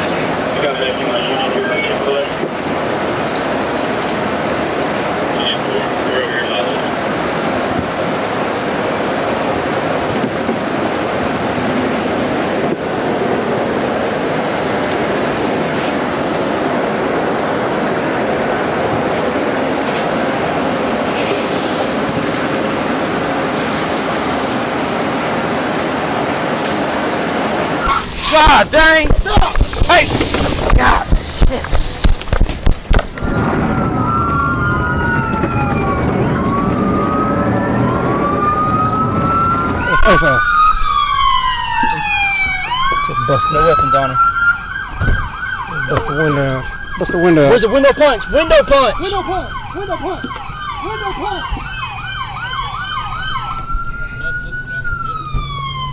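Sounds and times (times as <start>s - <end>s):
police sirens wailing: 0.0s - 31.2s, 32.6s - 55.9s
car driving noise: 0.0s - 55.9s
vehicle rumble: 0.0s - 55.9s.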